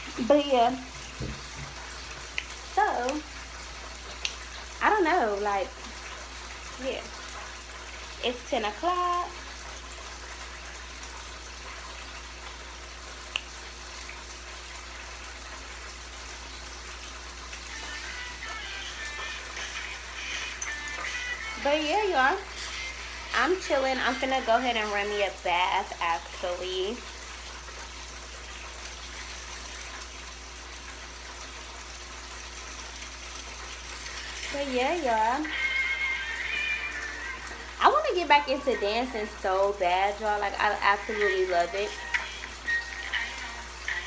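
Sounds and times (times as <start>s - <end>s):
water running from a tap: 0.0s - 44.0s.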